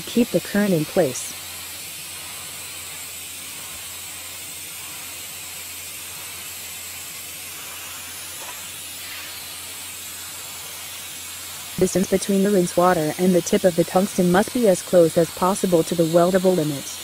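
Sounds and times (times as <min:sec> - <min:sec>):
welding arc hissing: 0:00.0 - 0:17.0.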